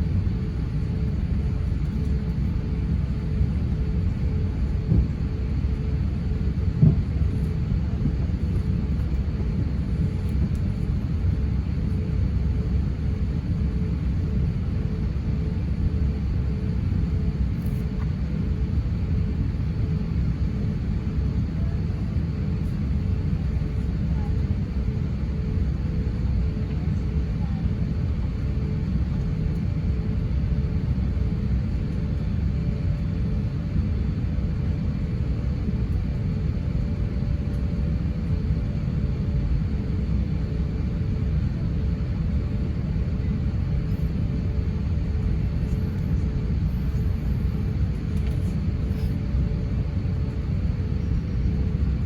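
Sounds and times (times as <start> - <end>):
airliner low rumble: 0.0 - 52.0
faint hum: 0.0 - 52.0.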